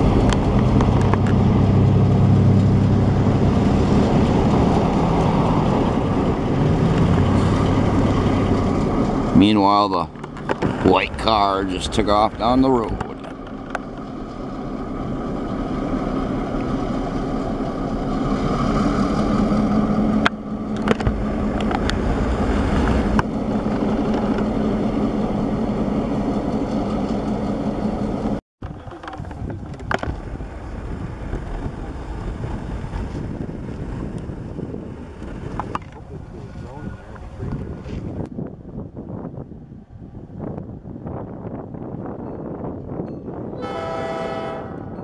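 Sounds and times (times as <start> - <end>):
diesel locomotive engine drone: 0.0 - 45.0
wind noise on microphone: 0.0 - 45.0.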